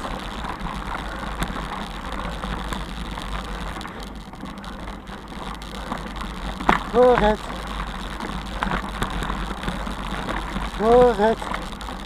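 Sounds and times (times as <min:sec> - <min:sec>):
bicycle tyres rolling on gravel: 0:00.0 - 0:12.0
small clicks and rattles: 0:00.0 - 0:12.0.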